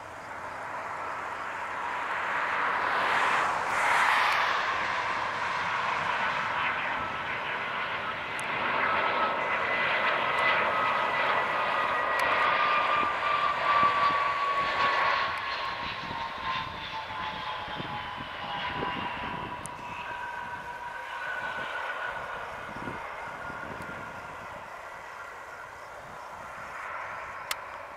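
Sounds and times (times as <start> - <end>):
jet engines roaring: 0.0 - 27.9.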